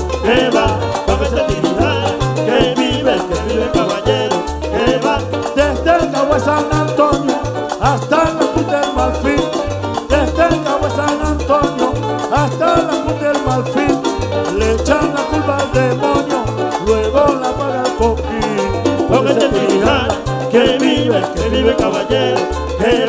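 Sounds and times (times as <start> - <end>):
guitar: 0.0 - 23.0
hand percussion: 0.0 - 23.0
plucked upright bass: 0.0 - 23.0.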